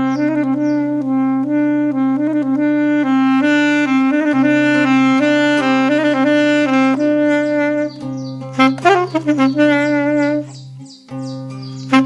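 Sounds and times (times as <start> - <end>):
saxophone slow melody: 0.0 - 12.0.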